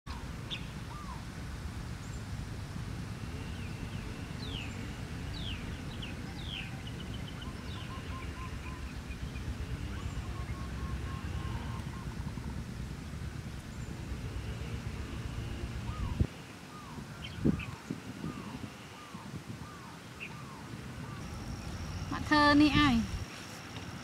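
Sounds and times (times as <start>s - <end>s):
birds chirping: 0.1s - 1.3s, 3.2s - 23.8s
steady low rumble: 0.1s - 23.3s.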